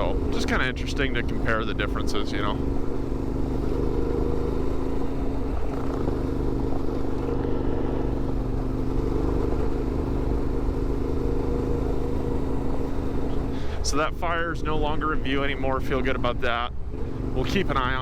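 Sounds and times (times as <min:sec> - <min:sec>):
motorcycle engine cruising: 0:00.0 - 0:18.0
road rumble: 0:00.0 - 0:18.0
wind: 0:00.0 - 0:18.0.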